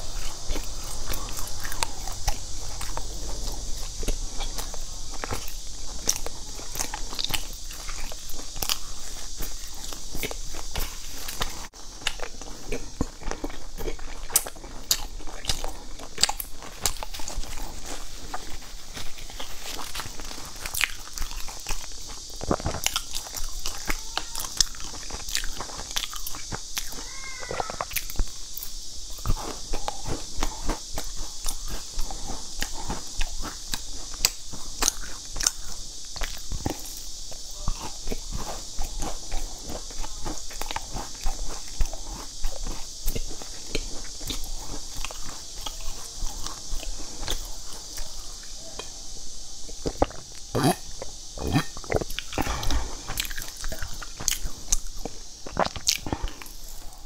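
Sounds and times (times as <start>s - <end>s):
crisp chewing crunches: 0.0s - 57.0s
steady hiss: 0.0s - 57.0s.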